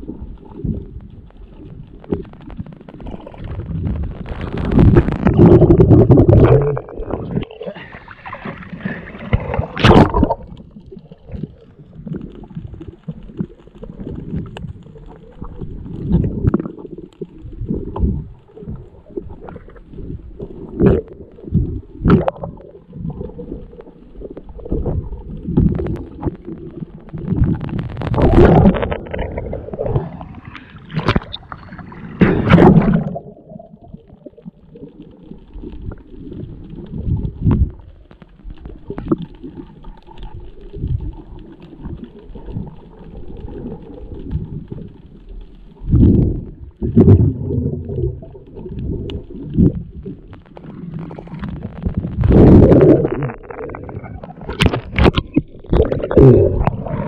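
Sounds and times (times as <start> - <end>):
muffled underwater water noise: 0.0 - 57.0.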